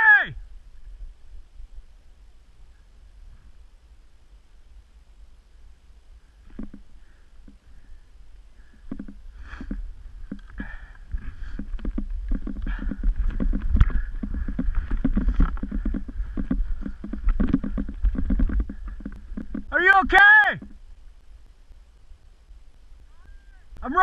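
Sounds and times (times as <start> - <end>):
wind rumbling on microphone: 0.3 - 24.0.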